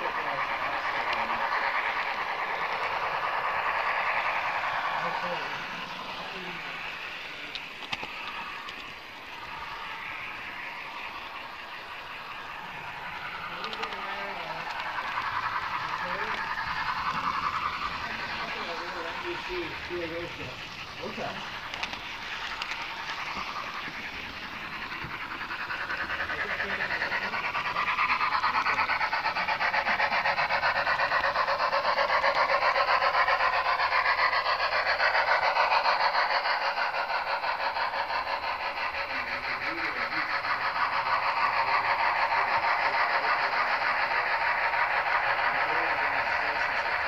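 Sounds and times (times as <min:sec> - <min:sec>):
model train running on track: 0:00.0 - 0:47.0.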